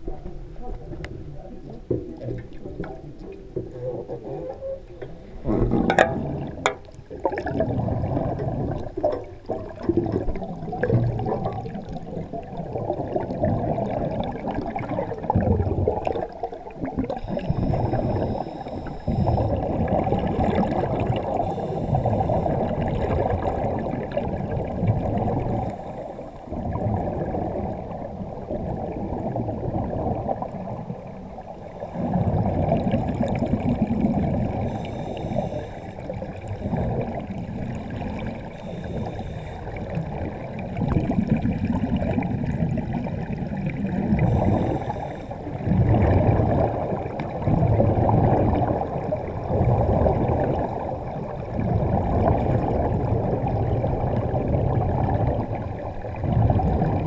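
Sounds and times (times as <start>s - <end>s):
underwater bubbling of escaping air: 5.2s - 57.0s.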